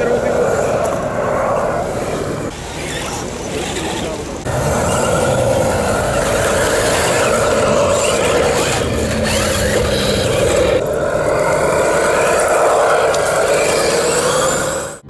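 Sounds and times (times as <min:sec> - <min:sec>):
model truck motor and gear whine: 0:00.0 - 0:15.0.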